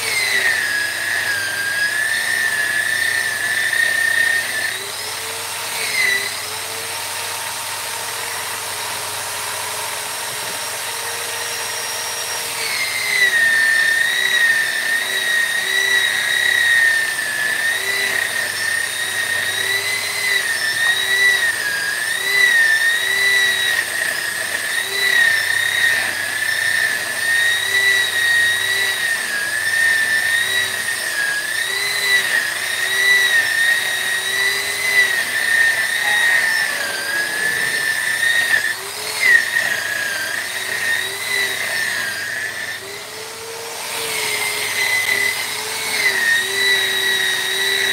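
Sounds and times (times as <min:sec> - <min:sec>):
rotary carving tool whining: 0:00.0 - 0:47.9.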